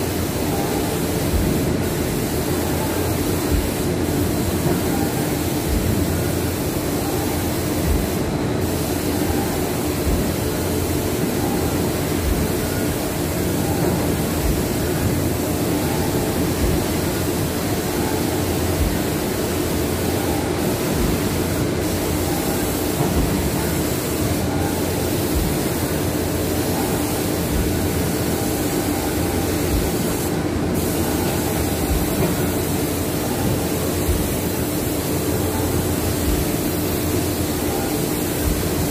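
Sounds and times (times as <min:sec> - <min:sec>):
constant low mechanical hum: 0:00.0 - 0:38.9
hiss: 0:00.0 - 0:38.9.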